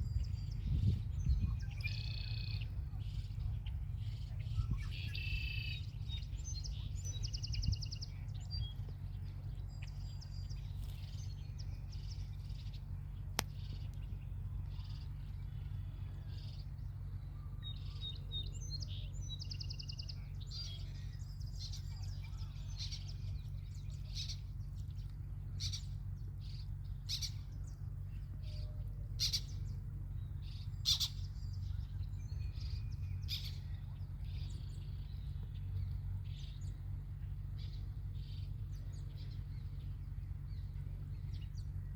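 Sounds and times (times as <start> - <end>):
bird trills: 0.0 - 8.9, 9.6 - 41.9
small birds chirping: 0.0 - 41.9
steady low rumble: 0.0 - 41.9.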